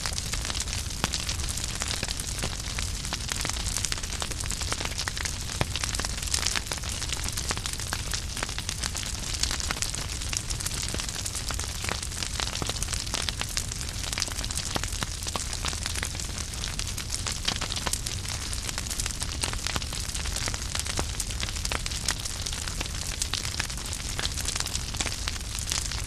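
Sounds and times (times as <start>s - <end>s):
burning logs crackling and popping: 0.0s - 26.0s
low rumble of flames: 0.0s - 26.0s.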